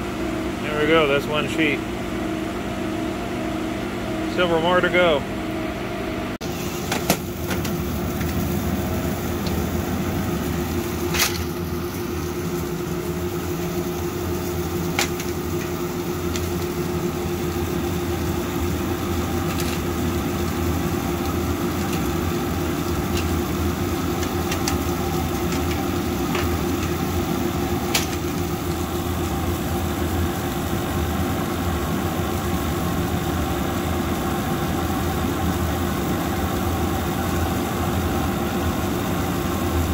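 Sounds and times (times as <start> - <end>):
exhaust blower humming: 0.0 - 39.9.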